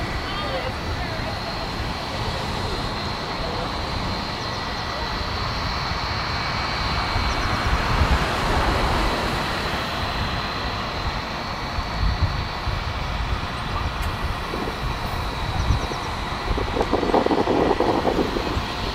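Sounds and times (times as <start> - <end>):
jet engines whining at taxi: 0.0 - 18.9.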